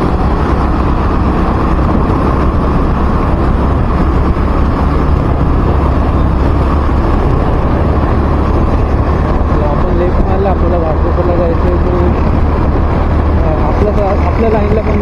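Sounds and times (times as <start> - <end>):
vehicle rumble in traffic: 0.0 - 15.0
wind rumble on microphone: 0.0 - 15.0.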